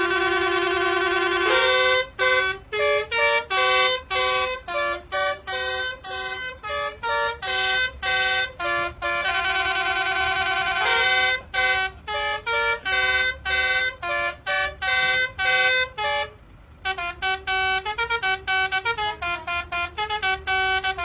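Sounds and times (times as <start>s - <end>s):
musical vehicle horn playing tune: 0.0s - 21.0s.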